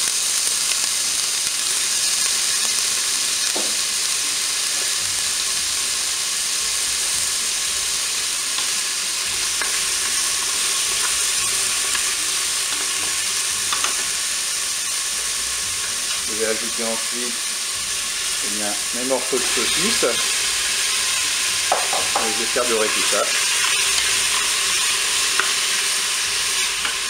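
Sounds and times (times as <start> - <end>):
onions sizzling in oil: 0.0 - 27.0.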